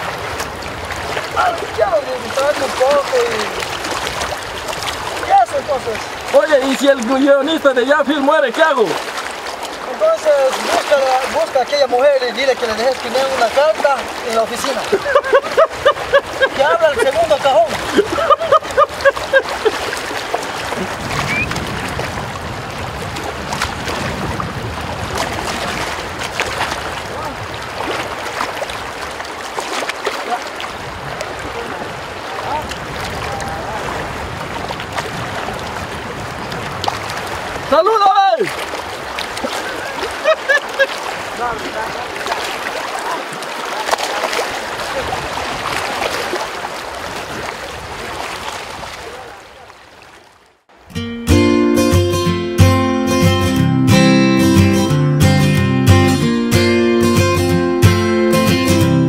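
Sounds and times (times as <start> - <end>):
small water splashes: 0.0 - 50.8
river rushing: 0.0 - 59.0.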